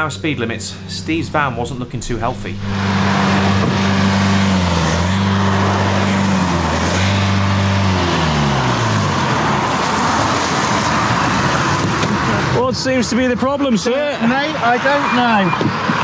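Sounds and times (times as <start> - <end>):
van engine running: 0.0 - 14.5
road and wind noise: 0.0 - 16.0.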